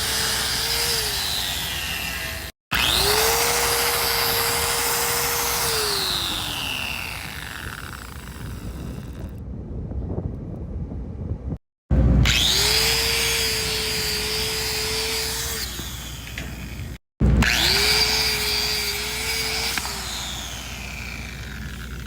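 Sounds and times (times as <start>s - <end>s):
angle grinder grinding metal: 0.0s - 9.4s, 12.2s - 22.0s.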